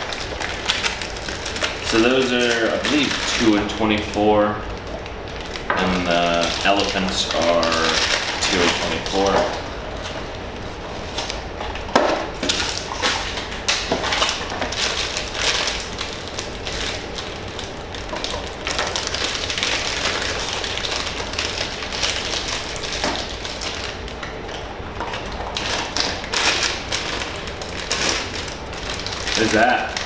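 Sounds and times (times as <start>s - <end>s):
packaging crinkling and rustling: 0.0s - 30.0s.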